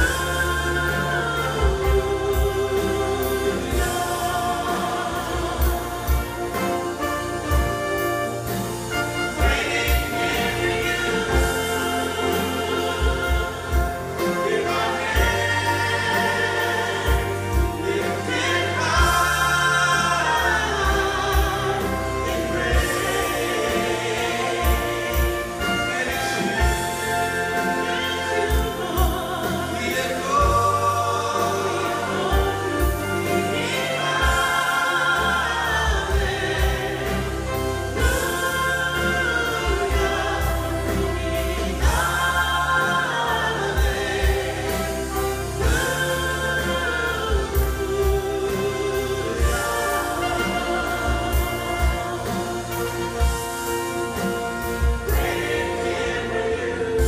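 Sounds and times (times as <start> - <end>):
choir singing: 0.0 - 57.0
drums steady beat: 0.0 - 57.0
live band: 0.0 - 57.0.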